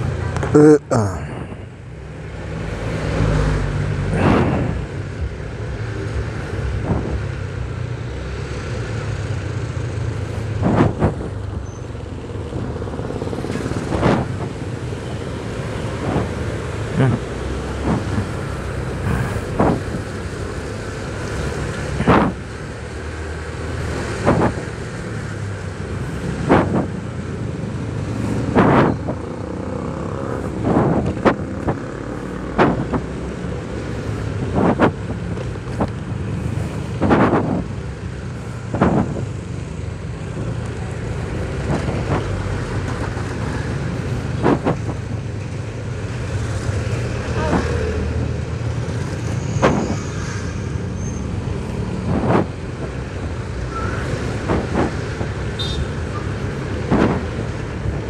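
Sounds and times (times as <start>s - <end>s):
loud rush of noise: 0.0s - 58.0s
road and wind noise: 0.0s - 58.0s.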